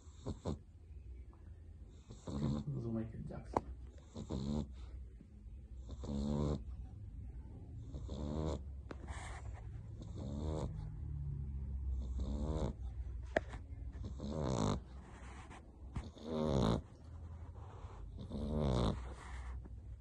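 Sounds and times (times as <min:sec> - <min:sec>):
puppy snoring: 0:00.0 - 0:00.8, 0:01.9 - 0:05.1, 0:05.7 - 0:06.9, 0:07.7 - 0:20.0.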